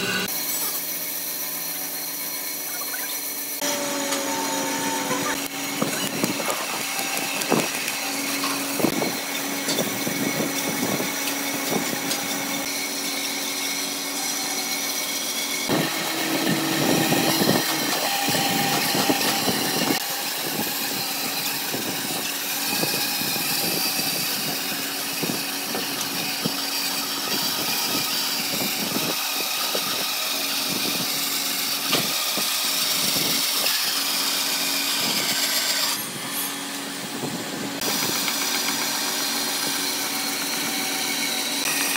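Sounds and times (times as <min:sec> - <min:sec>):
motor humming: 0:00.0 - 0:41.9.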